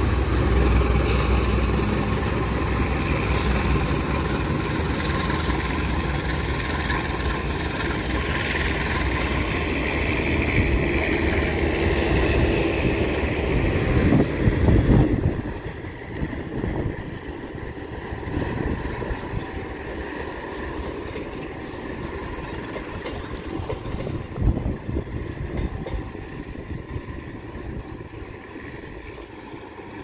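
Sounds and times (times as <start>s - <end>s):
train wheels rumbling and clacking: 0.0s - 30.0s.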